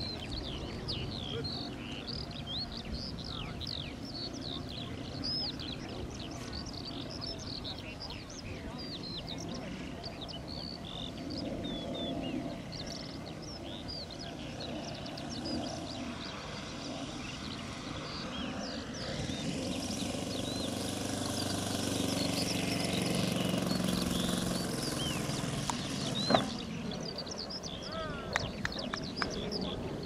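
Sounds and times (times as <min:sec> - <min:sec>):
birds chirping: 0:00.0 - 0:30.0
model plane engine hum: 0:00.0 - 0:30.0.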